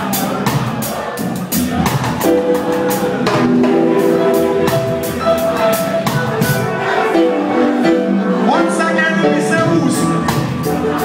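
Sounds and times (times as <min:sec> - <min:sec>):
live reggae band: 0:00.0 - 0:11.0.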